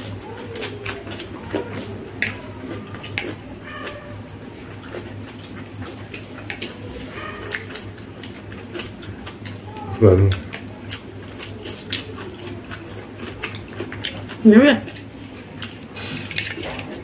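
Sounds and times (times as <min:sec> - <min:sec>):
wet chewing and lip-smacking: 0:00.0 - 0:17.0.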